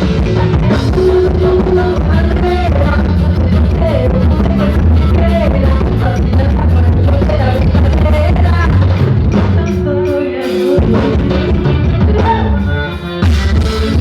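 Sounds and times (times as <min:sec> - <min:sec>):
band music with singing: 0:00.0 - 0:14.0.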